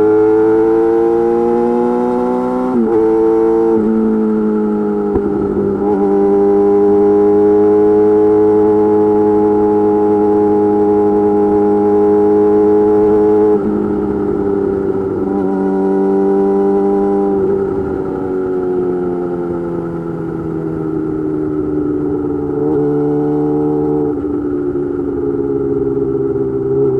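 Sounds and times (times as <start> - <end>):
sport motorcycle engine running: 0.0 - 26.9.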